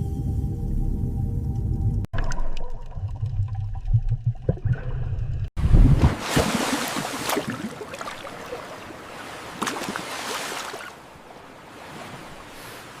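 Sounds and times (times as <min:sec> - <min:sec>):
water splashing and sloshing: 0:02.1 - 0:13.0.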